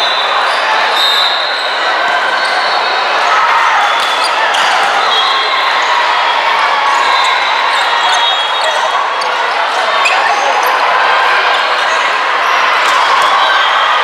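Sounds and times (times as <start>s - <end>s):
din of many voices: 0.0s - 14.0s.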